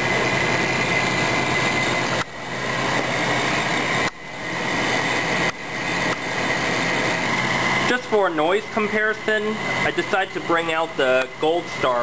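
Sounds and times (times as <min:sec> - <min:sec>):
fan motor howling tone: 0:00.0 - 0:12.0
window air conditioner running: 0:00.0 - 0:12.0.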